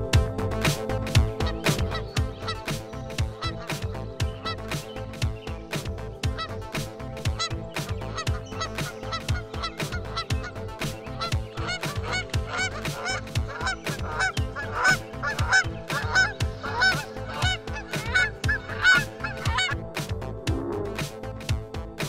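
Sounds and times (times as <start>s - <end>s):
geese honking: 1.4s - 19.8s.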